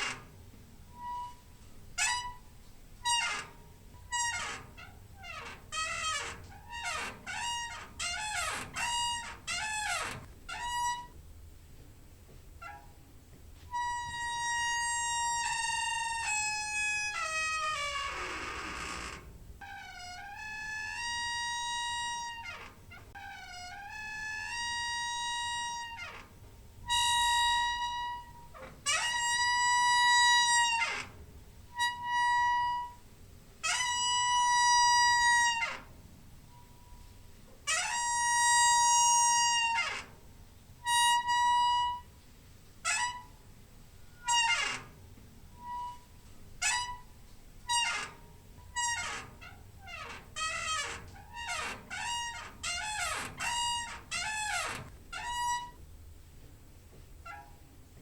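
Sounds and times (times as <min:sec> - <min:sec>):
door hinge squeaking: 0:00.0 - 0:11.2, 0:12.6 - 0:13.0, 0:13.7 - 0:33.0, 0:33.6 - 0:40.2, 0:40.8 - 0:42.2, 0:42.8 - 0:55.9, 0:57.2 - 0:57.7.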